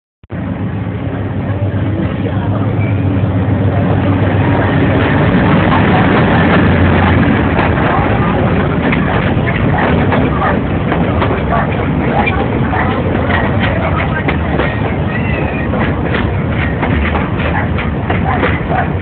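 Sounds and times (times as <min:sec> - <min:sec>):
diesel locomotive engine drone: 0:00.3 - 0:19.0
wheels clattering on rails: 0:01.1 - 0:19.0.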